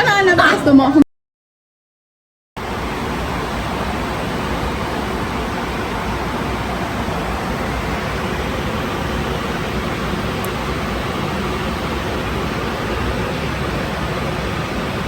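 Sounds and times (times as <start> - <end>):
steady rushing noise: 2.6 - 15.0.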